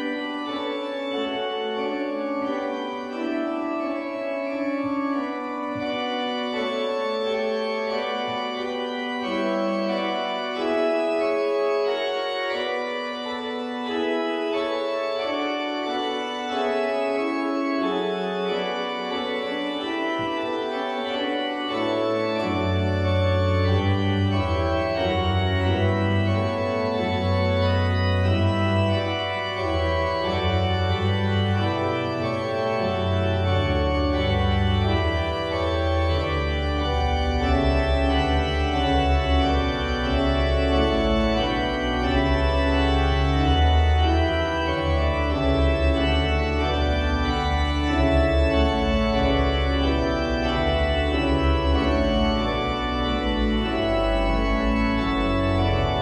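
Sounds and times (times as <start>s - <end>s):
deep organ pedal bass notes: 0.0s - 56.0s
pipe organ chords: 0.0s - 56.0s.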